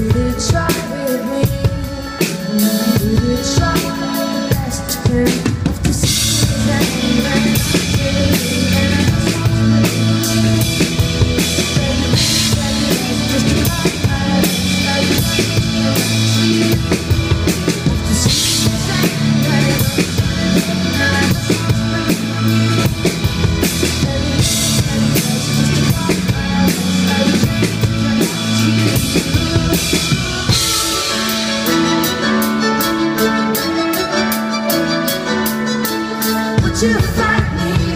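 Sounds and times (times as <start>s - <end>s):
rock band playing: 0.0s - 37.9s.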